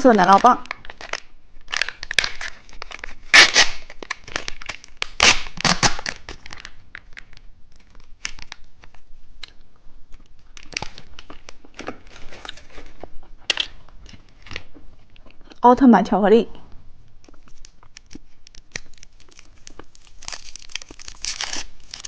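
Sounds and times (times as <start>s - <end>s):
plastic wrapper tearing and crinkling: 0.0s - 15.5s, 17.1s - 22.0s.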